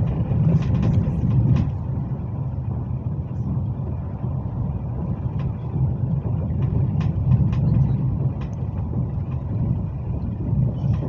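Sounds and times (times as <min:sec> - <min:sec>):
train cabin rumble: 0:00.0 - 0:11.0.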